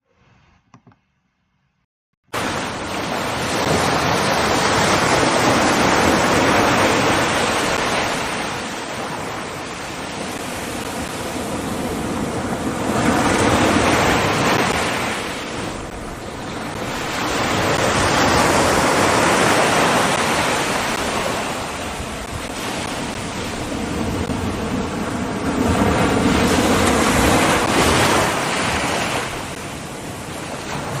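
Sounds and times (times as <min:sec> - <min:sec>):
surf breaking on a beach: 0:02.3 - 0:31.0.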